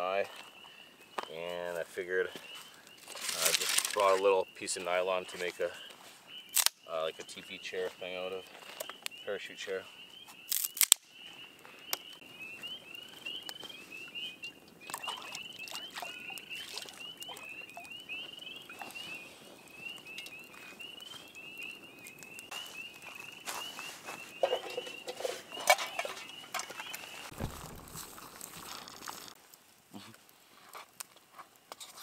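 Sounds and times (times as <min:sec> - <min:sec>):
frogs peeping: 0:00.2 - 0:28.4.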